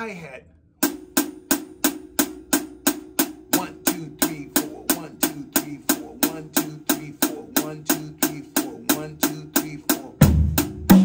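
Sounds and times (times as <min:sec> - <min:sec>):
hi-hat struck with drumstick: 0:00.8 - 0:11.0.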